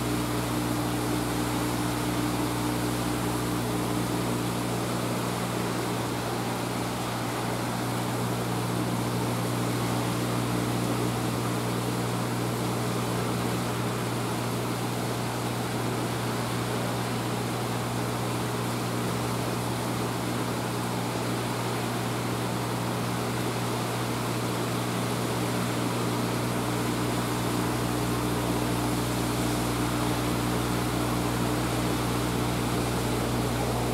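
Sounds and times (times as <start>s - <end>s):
aquarium pump humming: 0.0s - 33.9s.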